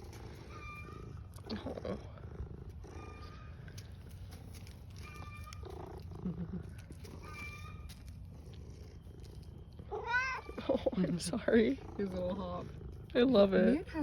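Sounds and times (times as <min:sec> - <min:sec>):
cat purring: 0:00.0 - 0:04.7, 0:05.6 - 0:07.4, 0:08.2 - 0:14.0.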